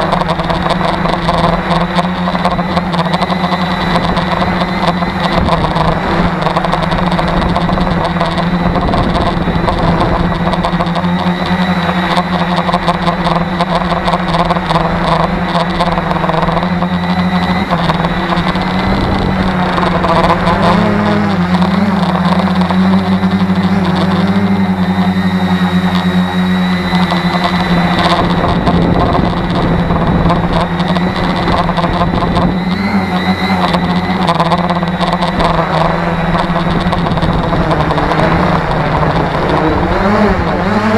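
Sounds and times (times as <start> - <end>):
drone motors humming: 0.0 - 40.9
wind noise: 0.0 - 40.9.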